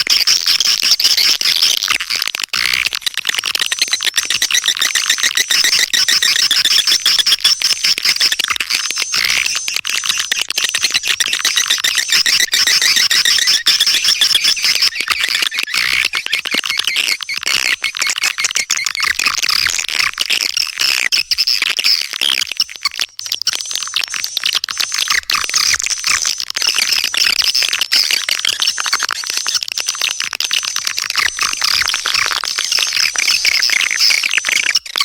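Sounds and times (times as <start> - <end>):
swiftlets twittering: 0.0 - 35.0.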